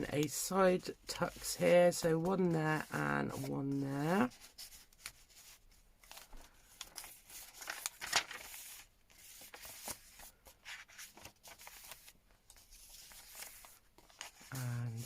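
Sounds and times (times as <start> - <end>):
paper rustling and scraping: 0.0 - 15.0.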